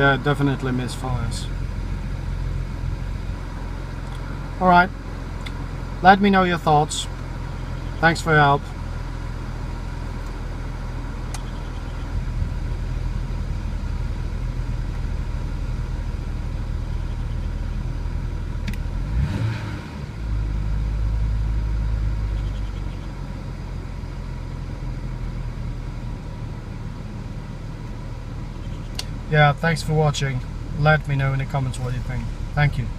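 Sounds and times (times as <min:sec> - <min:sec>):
car engine idling with misfires: 0:00.0 - 0:32.9.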